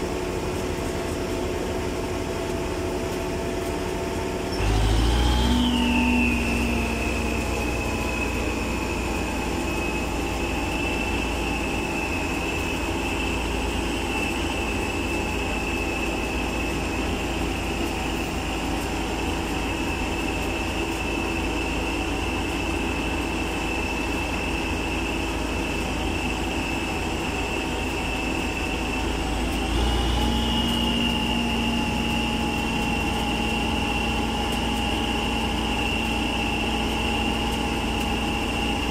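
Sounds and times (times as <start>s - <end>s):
high whine: 0.0s - 38.9s
tractor engine running under load: 0.0s - 38.9s.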